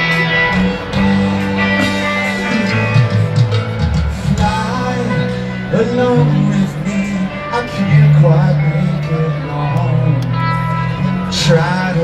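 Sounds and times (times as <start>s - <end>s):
electric guitars: 0.0s - 12.0s
person singing: 1.6s - 12.0s.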